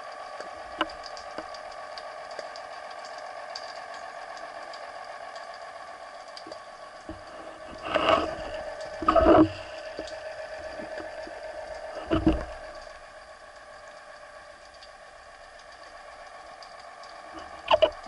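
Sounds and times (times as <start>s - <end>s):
swishing surges of water: 0.0s - 18.0s
underwater hum: 0.0s - 18.0s.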